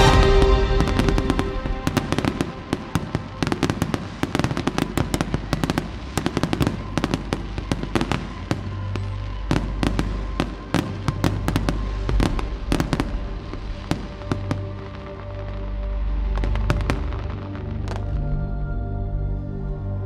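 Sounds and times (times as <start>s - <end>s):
fireworks bursting: 0.0s - 18.2s
music playing: 0.0s - 20.0s.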